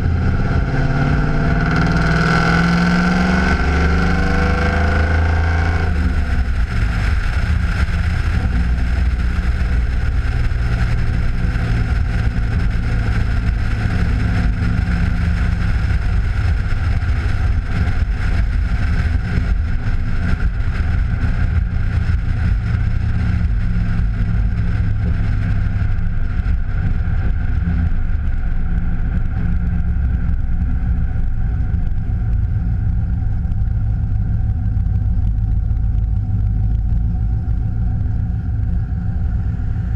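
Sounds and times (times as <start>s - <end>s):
car exhaust drone: 0.0s - 39.9s
tyre and wind noise: 0.0s - 39.9s.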